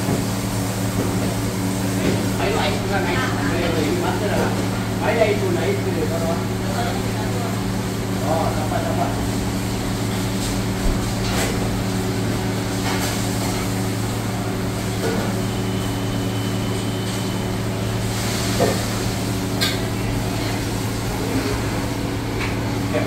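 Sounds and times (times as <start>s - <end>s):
ventilation fans humming: 0.0s - 23.0s.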